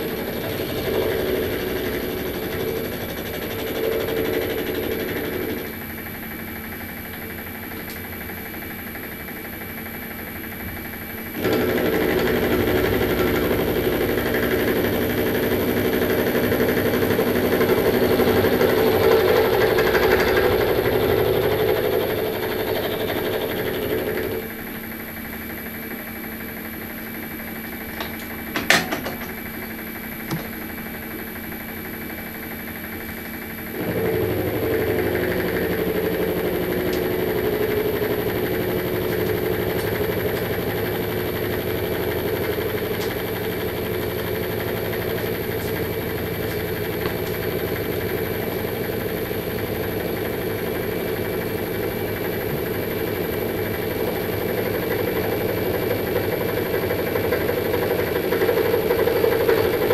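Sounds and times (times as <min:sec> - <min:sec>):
milling machine cutting metal: 0:00.0 - 0:07.7, 0:11.2 - 0:24.7, 0:27.1 - 0:31.0, 0:33.2 - 0:59.9
milling spindle running: 0:00.0 - 0:59.9.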